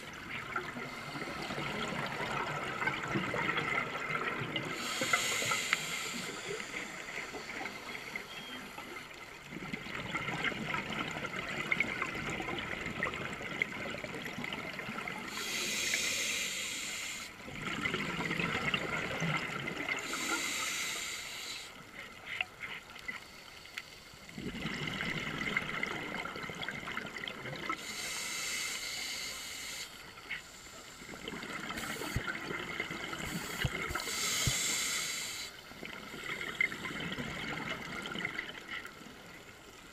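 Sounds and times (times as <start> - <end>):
underwater exhaled air bubbling: 0.0 - 21.4, 24.3 - 29.3, 30.9 - 39.5
steady watery hiss: 0.0 - 39.9.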